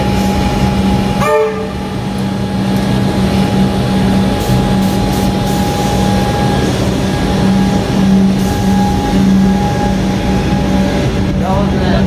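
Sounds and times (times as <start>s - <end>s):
steady electrical hum: 0.0s - 12.0s
wheels rumbling on rails: 0.0s - 12.0s.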